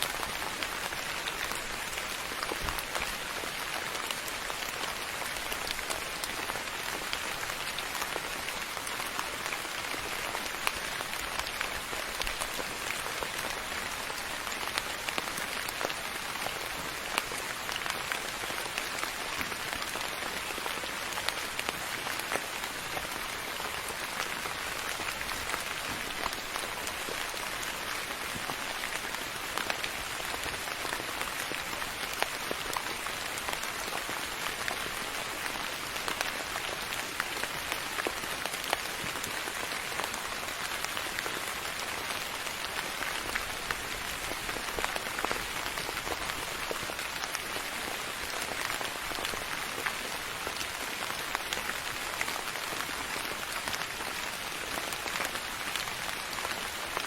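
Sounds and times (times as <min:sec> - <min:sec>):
rain pattering on hard surface: 0:00.0 - 0:57.0.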